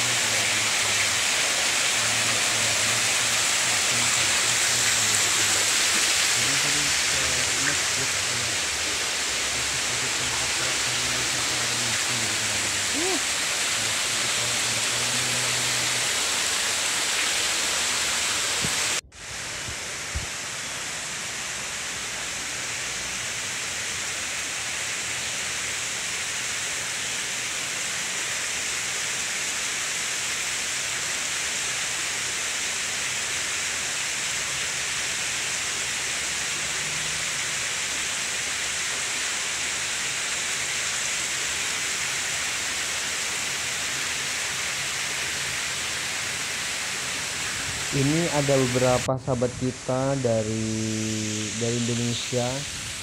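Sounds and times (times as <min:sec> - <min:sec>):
steady rushing hiss: 0:00.0 - 0:53.0.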